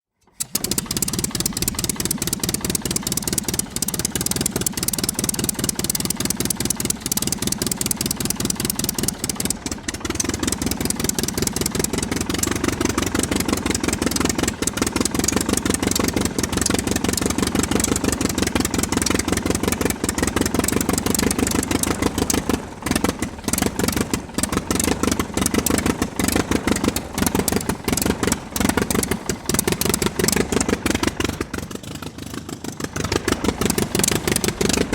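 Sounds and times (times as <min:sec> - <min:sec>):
aircraft engine pulsing: 0:00.4 - 0:34.9.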